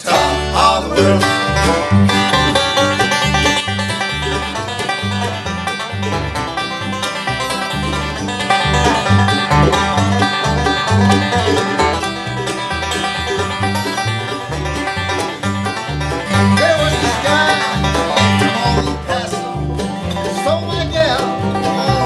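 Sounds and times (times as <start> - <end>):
fast-picked string instruments: 0.0 - 22.0
low bass notes: 0.0 - 22.0.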